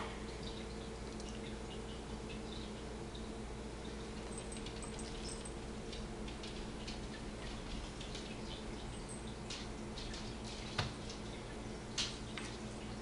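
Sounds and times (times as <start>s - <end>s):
low mains hum: 0.0s - 13.0s.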